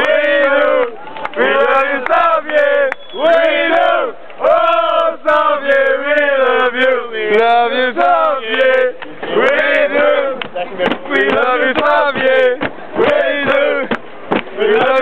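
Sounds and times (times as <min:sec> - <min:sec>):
male fans chanting and singing: 0:00.0 - 0:15.0.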